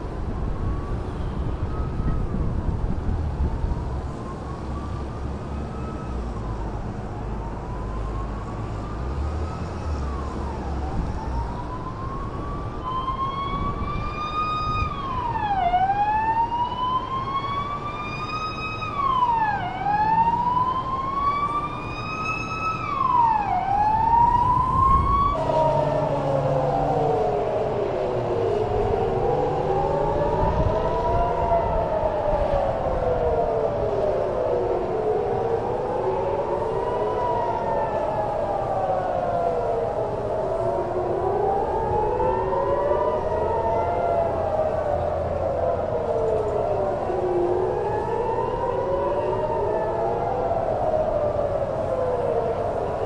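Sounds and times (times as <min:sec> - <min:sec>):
air-raid siren wailing: 0:00.0 - 0:53.0
lower siren with falling tones: 0:00.0 - 0:53.0.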